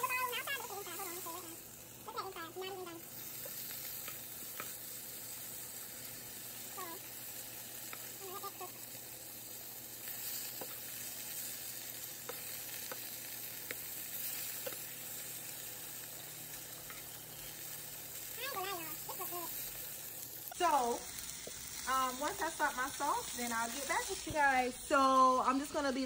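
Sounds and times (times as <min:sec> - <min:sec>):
chicken sizzling in a pan: 0:00.0 - 0:26.0.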